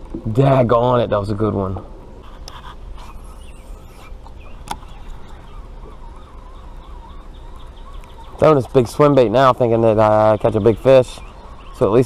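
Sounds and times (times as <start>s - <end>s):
birds calling: 0.0s - 12.0s
low outdoor background hum: 0.0s - 12.0s.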